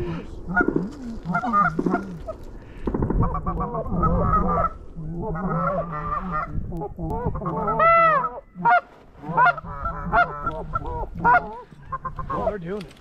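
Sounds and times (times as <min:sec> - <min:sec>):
geese honking: 0:00.0 - 0:12.8.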